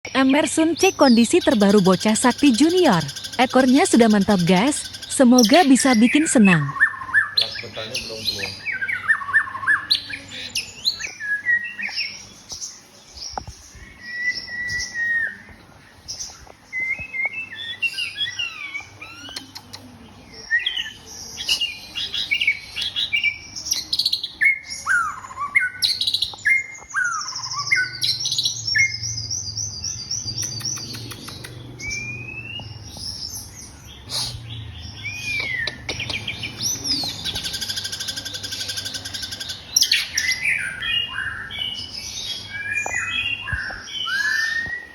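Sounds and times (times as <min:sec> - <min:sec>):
bird singing whistles and trills: 0:01.0 - 0:12.2, 0:13.8 - 0:15.6, 0:16.7 - 0:19.6, 0:20.4 - 0:44.9.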